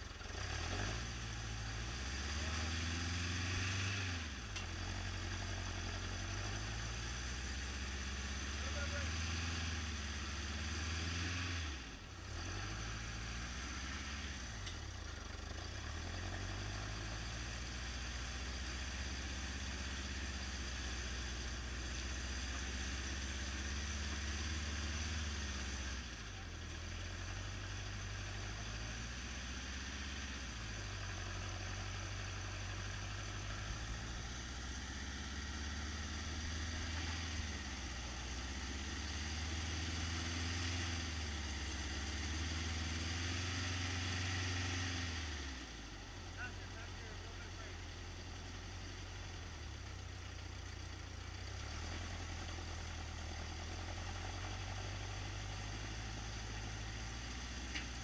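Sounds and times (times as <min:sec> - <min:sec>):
truck engine at low revs: 0:00.0 - 0:58.0.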